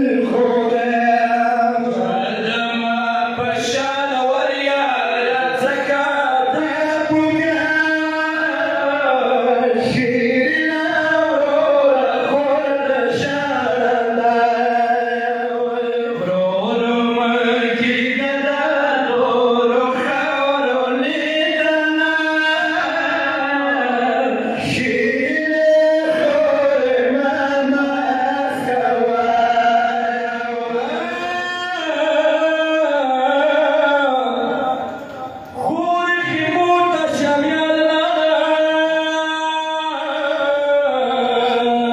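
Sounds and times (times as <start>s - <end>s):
men chanting a lament: 0.0s - 41.9s.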